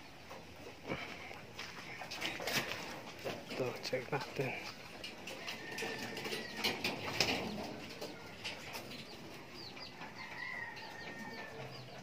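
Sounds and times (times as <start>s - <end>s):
birds clattering in cage: 0.0s - 12.0s.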